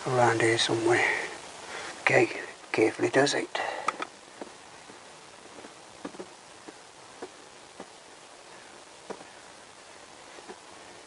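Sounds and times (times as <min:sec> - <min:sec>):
faint pouring hiss: 0:00.0 - 0:11.0.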